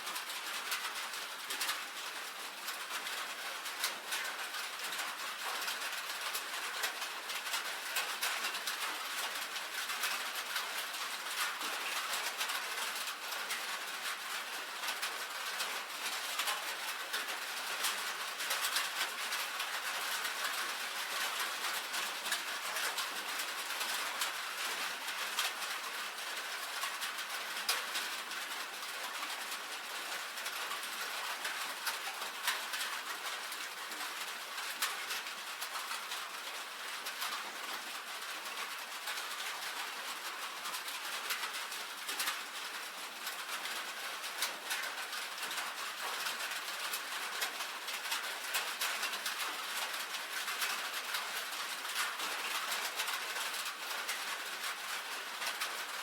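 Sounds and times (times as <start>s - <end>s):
rain on a tin roof: 0.0s - 56.0s.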